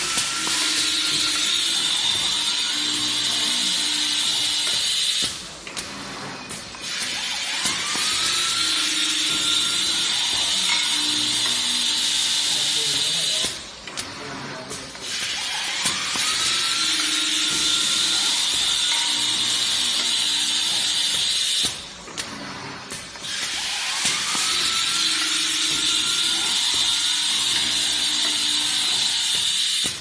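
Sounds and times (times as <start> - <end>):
machine hissing: 0.0 - 30.0.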